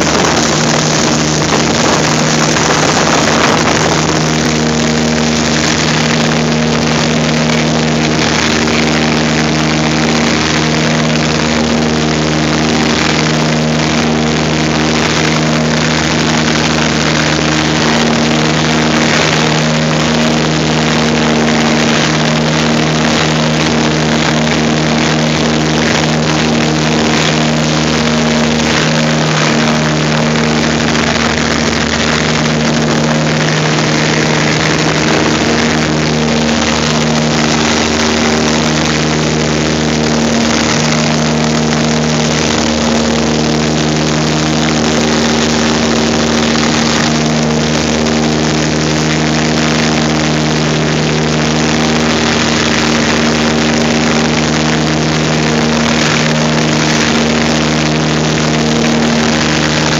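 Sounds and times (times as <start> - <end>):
aircraft engines droning: 0.0 - 59.9
rush of air: 0.0 - 59.9.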